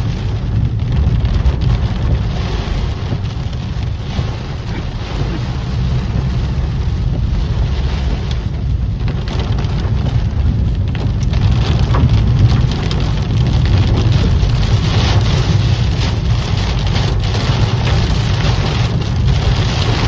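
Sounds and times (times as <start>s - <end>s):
deep thunder rumble: 0.0s - 20.0s
loud rain falling: 0.0s - 20.0s.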